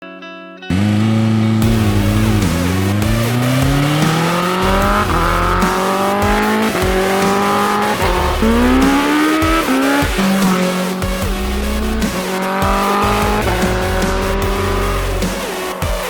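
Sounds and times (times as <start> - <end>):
motorcycle engine accelerating: 0.7 - 16.0.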